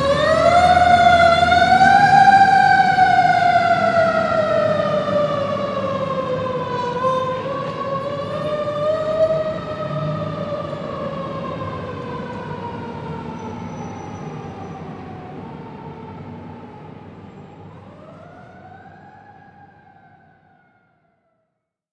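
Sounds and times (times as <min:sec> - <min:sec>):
truck engine rumble: 0:00.0 - 0:18.7
fire truck siren wailing: 0:00.0 - 0:21.4.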